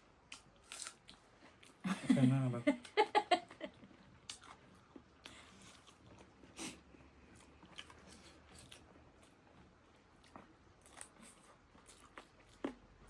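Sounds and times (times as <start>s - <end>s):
chewing and biting: 0.3s - 1.8s, 3.7s - 13.0s.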